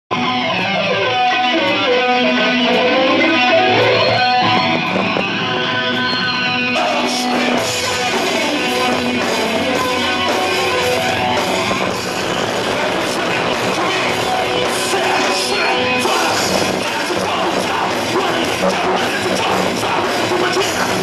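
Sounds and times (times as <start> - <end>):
electric guitar melody: 0.1 - 21.0
live rock band: 0.1 - 21.0
drums and cymbals: 2.8 - 21.0.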